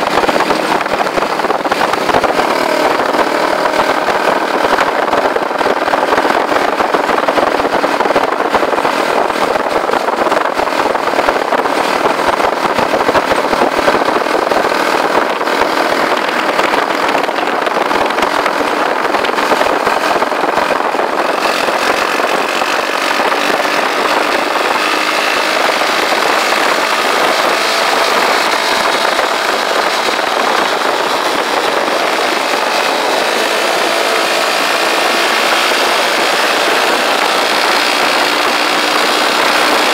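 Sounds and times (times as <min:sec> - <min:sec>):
motorcycle engine running: 0:00.0 - 0:39.9
road noise: 0:00.0 - 0:39.9
wind rush: 0:00.0 - 0:39.9.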